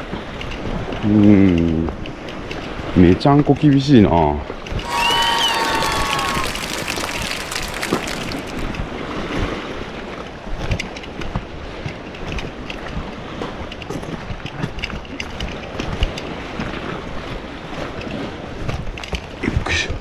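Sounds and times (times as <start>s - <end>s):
moving sea water: 0.0s - 20.0s
wind buffeting microphone: 0.0s - 20.0s.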